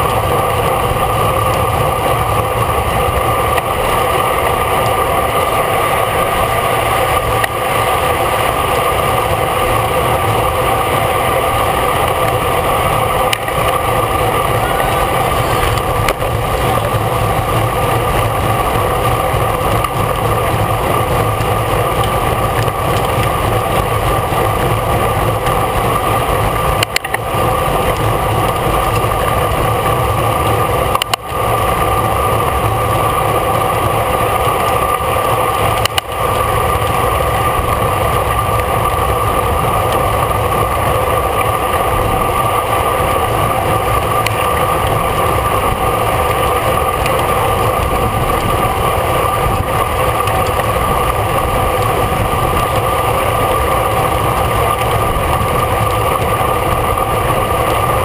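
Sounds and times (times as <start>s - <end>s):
constant whine: 0.0s - 58.0s
wind rush and road noise: 0.0s - 58.0s.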